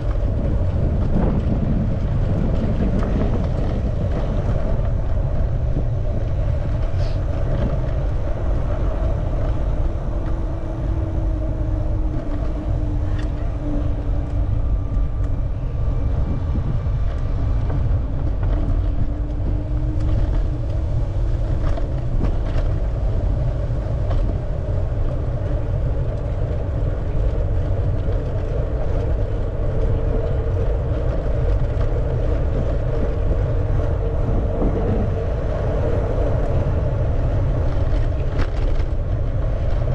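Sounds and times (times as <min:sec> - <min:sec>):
road noise: 0:00.0 - 0:39.9
wind: 0:00.0 - 0:39.9.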